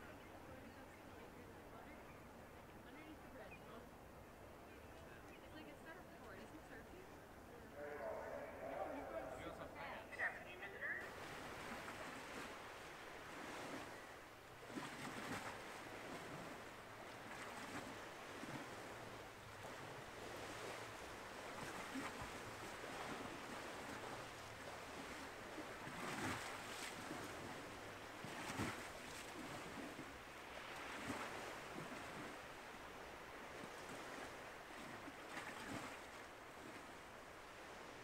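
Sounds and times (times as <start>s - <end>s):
water lapping against pier: 0.0s - 38.0s.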